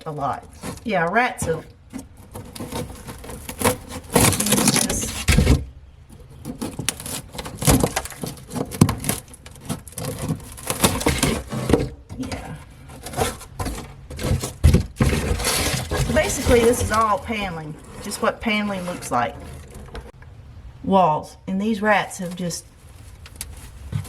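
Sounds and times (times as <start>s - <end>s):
wood paneling scraping and knocking: 0.0s - 20.2s, 23.5s - 24.0s.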